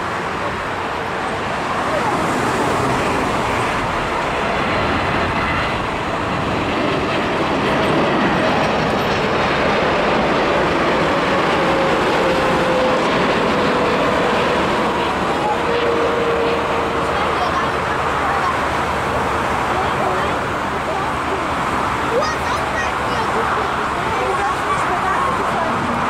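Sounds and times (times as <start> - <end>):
jet engine roar: 0.0 - 26.0
jet engine whine falling in pitch: 0.6 - 21.7.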